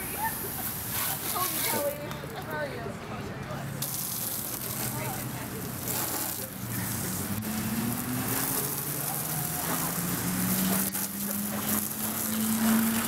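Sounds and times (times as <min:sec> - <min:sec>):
hose spraying water on car: 0:00.0 - 0:02.4, 0:03.8 - 0:13.0.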